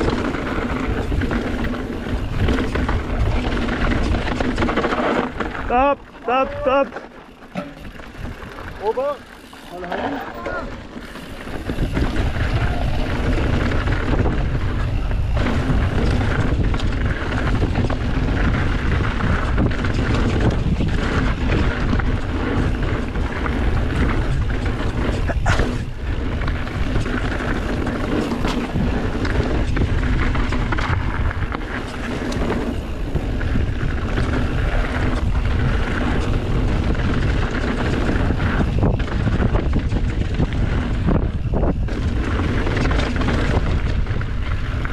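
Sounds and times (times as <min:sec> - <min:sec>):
wind noise on microphone: 0:00.0 - 0:06.8, 0:07.6 - 0:09.7, 0:10.3 - 0:44.9
bike rumbling down dirt trail: 0:00.0 - 0:44.9.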